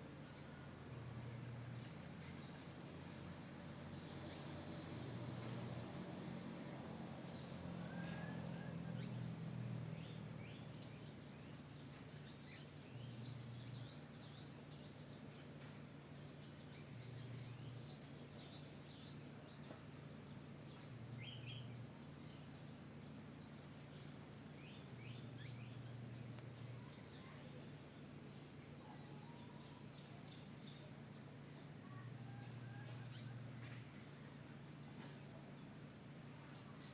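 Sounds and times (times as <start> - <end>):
birds chirping and twittering: 0.0 - 36.9
low steady hum: 0.0 - 36.9.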